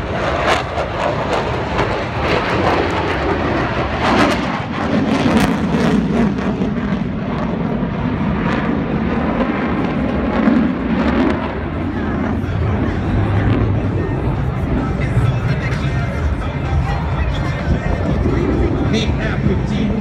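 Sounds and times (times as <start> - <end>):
deep jet rumble: 0.0 - 20.0
fighter jet rush: 0.0 - 20.0.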